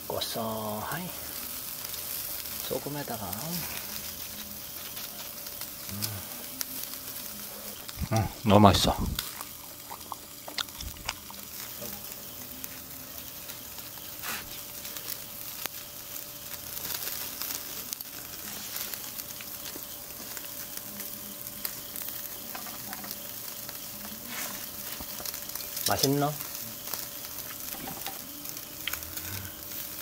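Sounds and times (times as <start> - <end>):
meat sizzling on a grill: 0.0 - 30.0.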